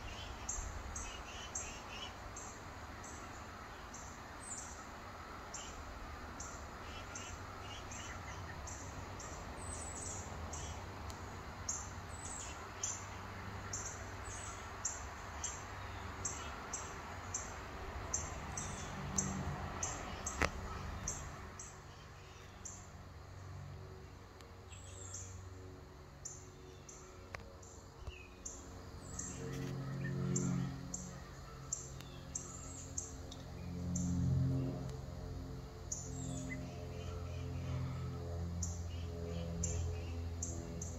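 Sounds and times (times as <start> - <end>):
low hum: 5.4 - 40.9.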